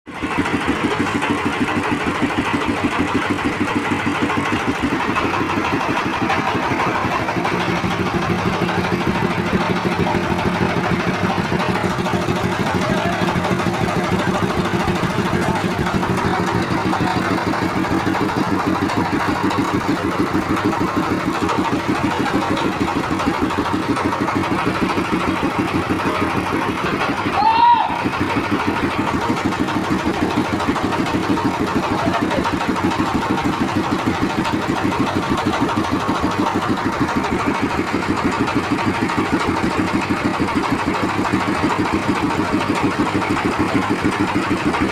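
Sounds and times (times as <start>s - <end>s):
engine running with thumping: 0.1s - 44.9s.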